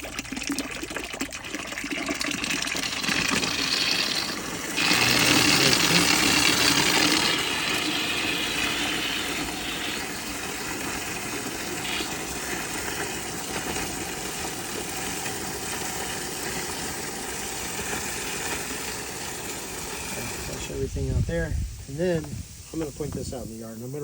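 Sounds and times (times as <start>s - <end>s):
water rushing through a hose: 0.0s - 24.0s.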